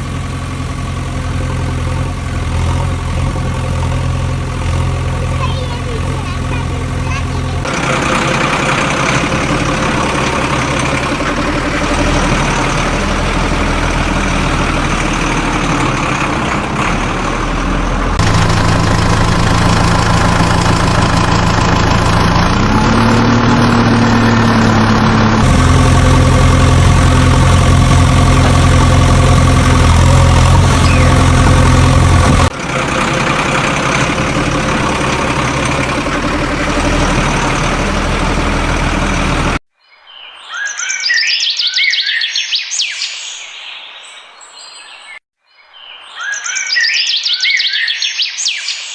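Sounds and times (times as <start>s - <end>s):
heavy vehicle engine idling: 0.0s - 39.6s.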